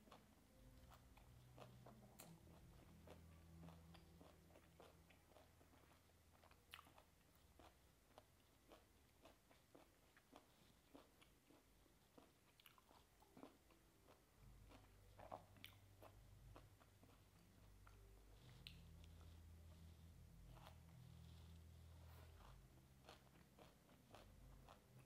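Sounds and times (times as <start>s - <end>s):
chewing with mouth closed: 0.0s - 19.5s, 20.5s - 25.0s
low steady hum: 0.0s - 25.0s.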